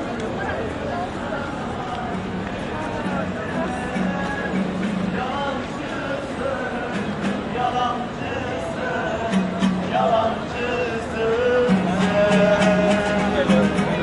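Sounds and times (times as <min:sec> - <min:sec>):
crowd chatter: 0:00.0 - 0:14.0
music with singing voice: 0:01.9 - 0:14.0.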